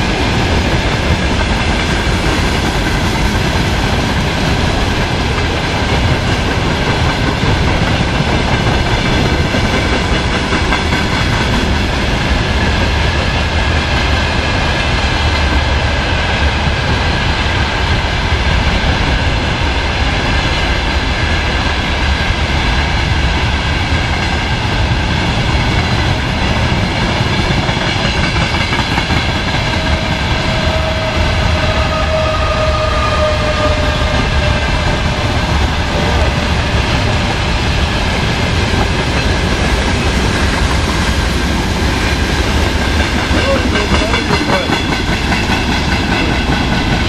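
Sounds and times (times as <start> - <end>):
train wheels clattering on rails: 0.0 - 47.0.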